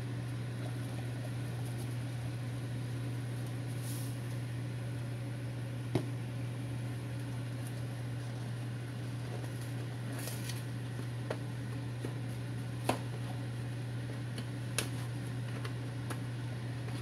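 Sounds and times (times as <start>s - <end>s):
steady low hum: 0.0s - 17.0s
water boiling in a pot: 0.0s - 17.0s.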